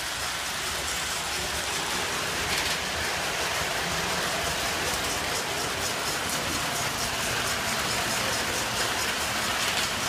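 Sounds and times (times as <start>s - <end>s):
model trains rolling rumble: 0.0s - 10.0s.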